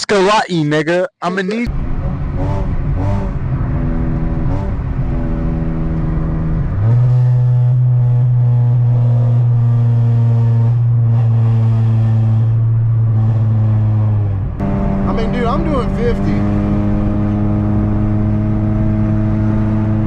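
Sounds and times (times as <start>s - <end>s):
car engine droning: 1.7s - 20.0s.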